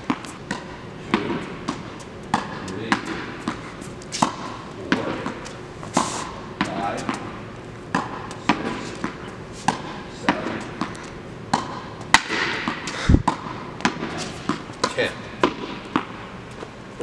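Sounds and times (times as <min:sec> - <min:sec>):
ball bouncing on court: 0:00.0 - 0:05.6, 0:06.5 - 0:16.3
racket striking tennis ball: 0:00.0 - 0:16.3.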